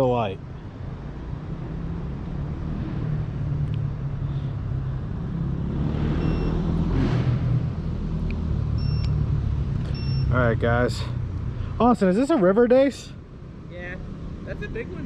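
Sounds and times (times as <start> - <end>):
vehicle passing by rushing: 0.8 - 15.0.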